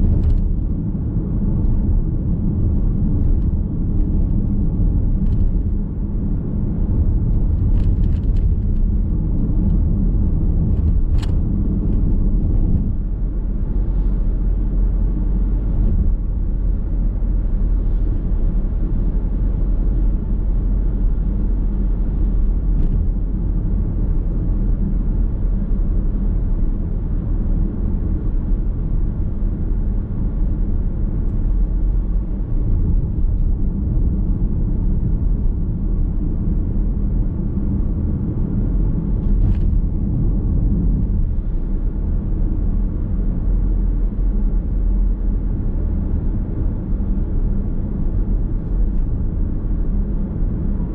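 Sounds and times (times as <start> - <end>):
road and tyre noise in car: 0.0 - 50.9.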